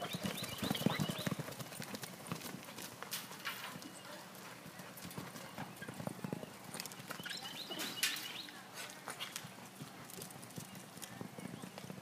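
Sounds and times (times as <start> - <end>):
horse hoofbeats on dirt: 0.0 - 12.0.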